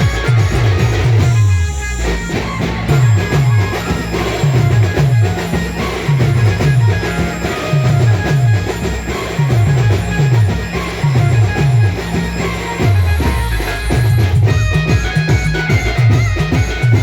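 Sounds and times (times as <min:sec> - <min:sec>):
band melody: 0:00.0 - 0:17.0
heavy drum beat: 0:00.0 - 0:17.0.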